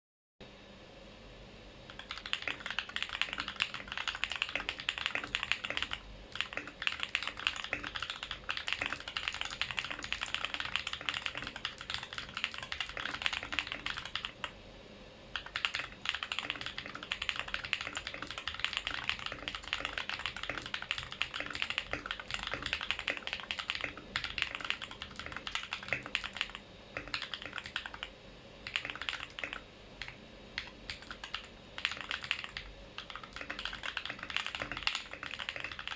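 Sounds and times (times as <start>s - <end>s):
mechanical keyboard typing: 1.9s - 14.6s, 15.4s - 35.9s.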